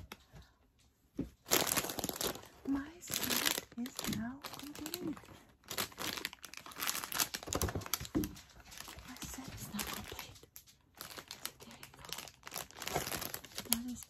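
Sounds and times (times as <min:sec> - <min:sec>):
plastic packaging crinkling: 0:01.3 - 0:14.0.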